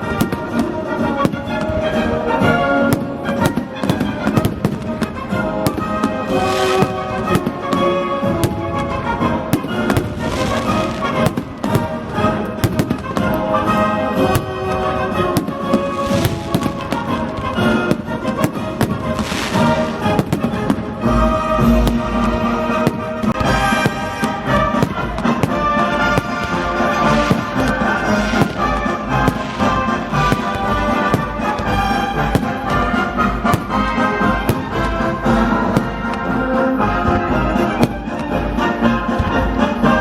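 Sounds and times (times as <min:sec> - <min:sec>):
fireworks bursting and crackling: 0:00.0 - 0:40.0
military song with brass: 0:00.0 - 0:40.0.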